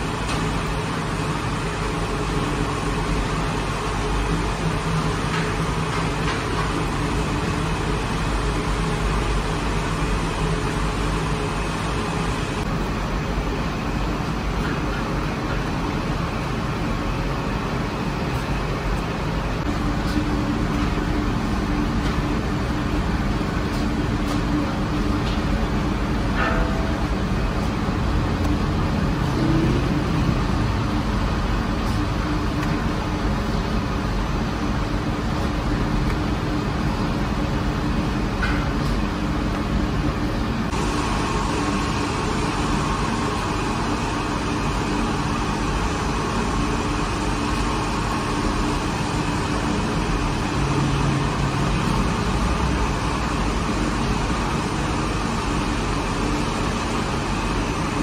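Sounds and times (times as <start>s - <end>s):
oven mechanical rumble and hum: 0.0s - 58.0s.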